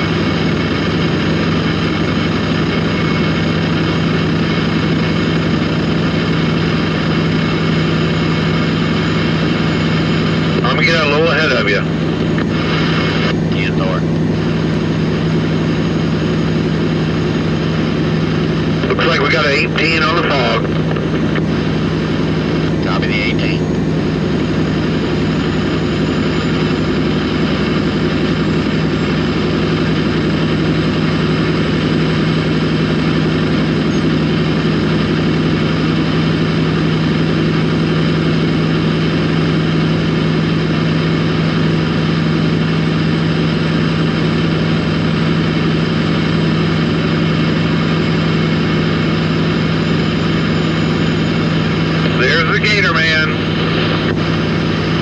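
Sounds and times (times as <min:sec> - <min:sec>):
vehicle engine hum and road noise: 0:00.0 - 0:55.0.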